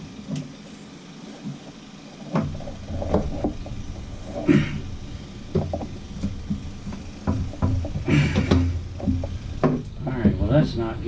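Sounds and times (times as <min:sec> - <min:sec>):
low rumble: 0:02.1 - 0:11.0.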